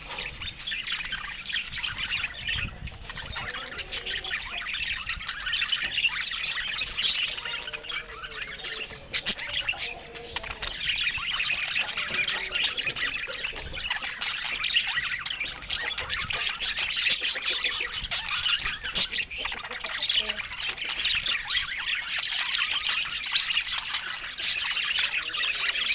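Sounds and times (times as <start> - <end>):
bird squawks and chirps: 0.0 - 25.9
caged birds chattering: 0.0 - 25.9.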